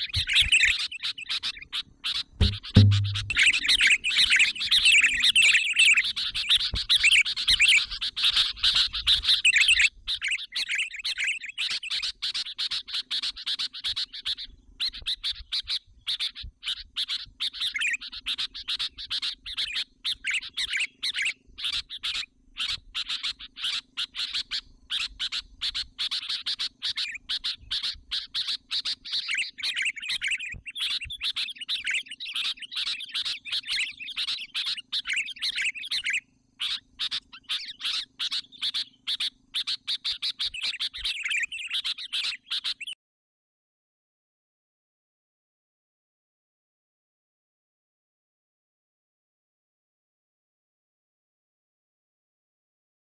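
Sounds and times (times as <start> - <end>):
bird chattering chirps: 0.0 - 43.0.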